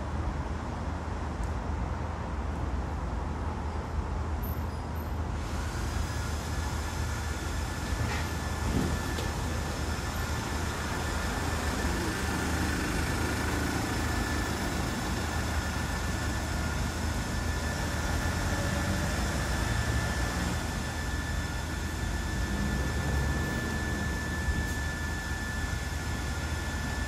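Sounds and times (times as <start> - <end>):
street traffic engine rumble: 0.0 - 27.0.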